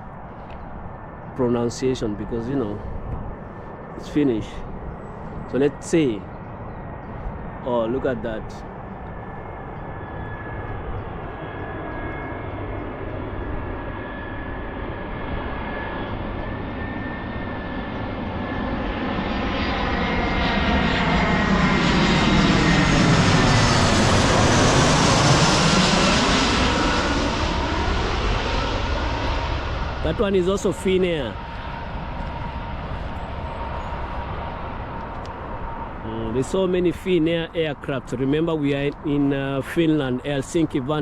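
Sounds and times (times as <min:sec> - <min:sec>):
airliner passing overhead: 0:00.0 - 0:41.0.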